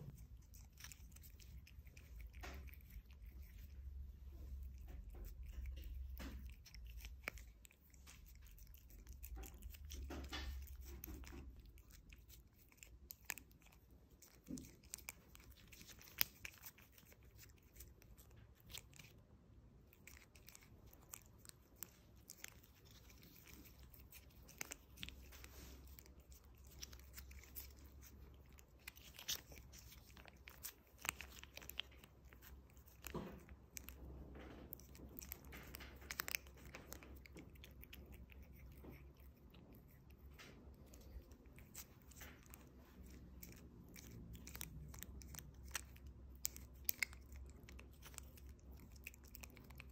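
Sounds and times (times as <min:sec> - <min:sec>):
cat licking and smacking: 0:00.0 - 0:49.9.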